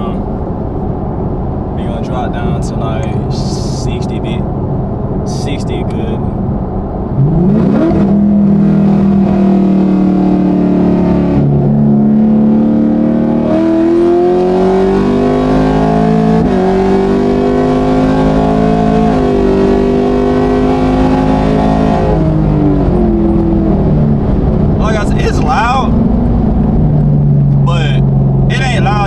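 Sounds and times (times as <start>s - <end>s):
loud car engine at full throttle: 0.0s - 29.0s.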